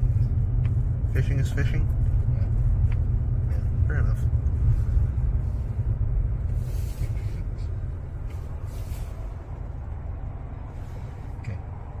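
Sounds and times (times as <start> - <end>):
car cabin road and engine noise: 0.0 - 12.0.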